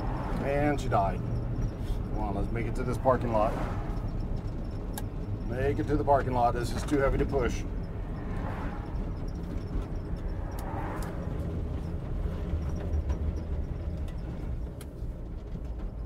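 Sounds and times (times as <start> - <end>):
tyres and chassis rumbling: 0.0 - 16.0.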